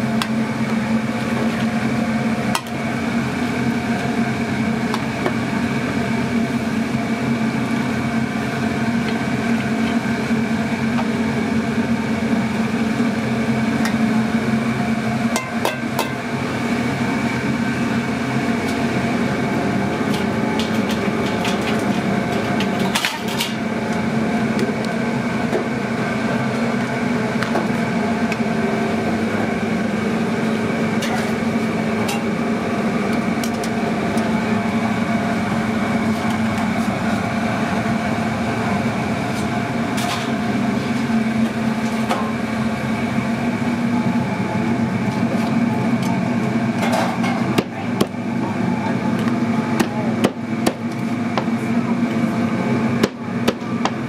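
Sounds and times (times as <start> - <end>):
kitchen equipment hum: 0.0 - 54.0.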